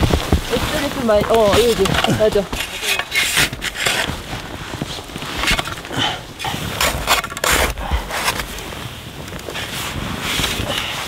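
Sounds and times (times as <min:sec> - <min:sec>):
shovel scraping snow: 0:00.0 - 0:11.0.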